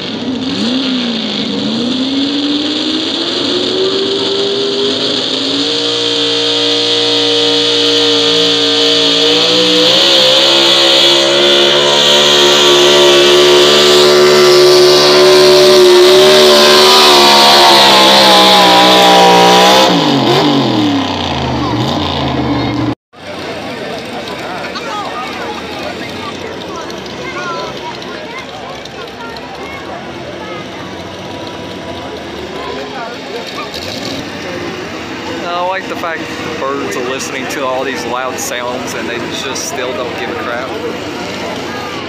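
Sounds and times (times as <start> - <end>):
truck engine at full throttle: 0.0 - 42.0.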